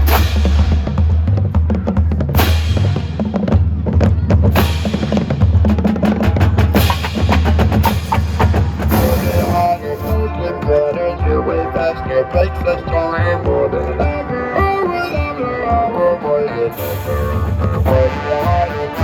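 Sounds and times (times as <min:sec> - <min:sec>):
deep bass drums: 0:00.0 - 0:15.8, 0:17.0 - 0:18.6
snare and tenor drums: 0:00.0 - 0:16.1, 0:16.7 - 0:19.0.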